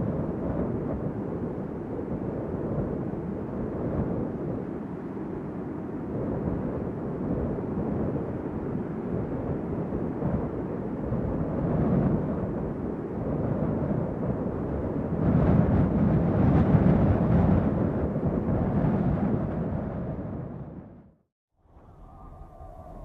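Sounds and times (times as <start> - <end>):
howling wind gusts: 0.0 - 23.0.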